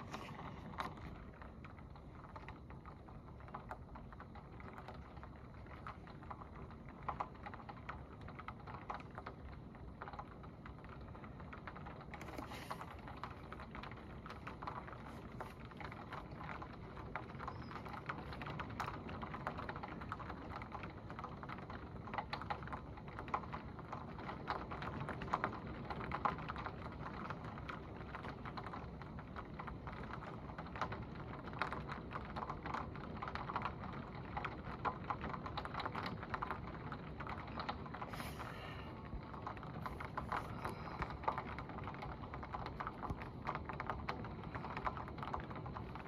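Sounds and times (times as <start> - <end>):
hiss of downpour: 0.0 - 46.0
rain drops hitting window: 0.0 - 46.0.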